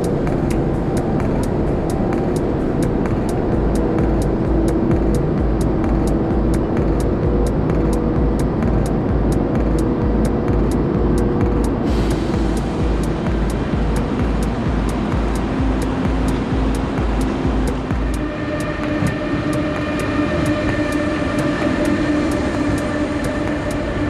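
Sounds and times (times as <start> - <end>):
held chords: 0.0 - 24.0
hi-hat ticking: 0.0 - 24.0
pulsing bass line: 0.0 - 24.0.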